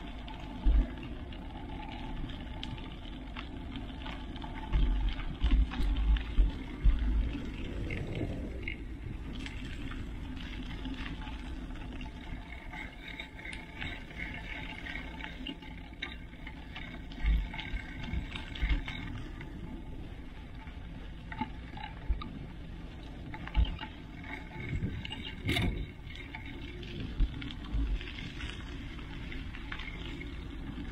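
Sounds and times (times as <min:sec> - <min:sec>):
bike tyres crunching on gravel: 0:00.0 - 0:30.9
small clicks and rattles: 0:00.0 - 0:30.9.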